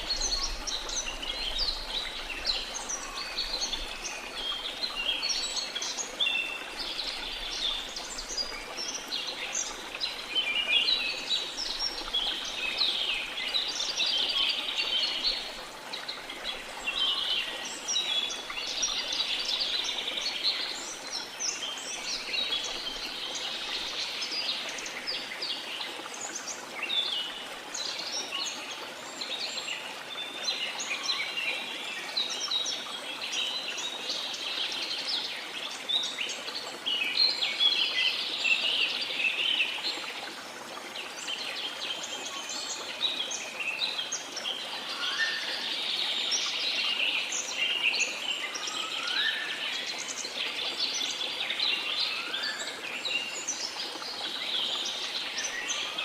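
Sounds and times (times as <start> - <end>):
flowing river water: 0.0 - 56.0.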